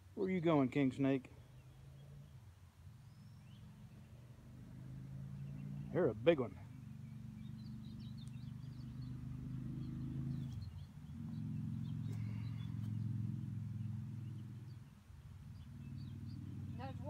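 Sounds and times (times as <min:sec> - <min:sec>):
low steady motor hum: 0:00.8 - 0:17.0
faint bird chirps: 0:01.2 - 0:04.3, 0:05.2 - 0:17.0.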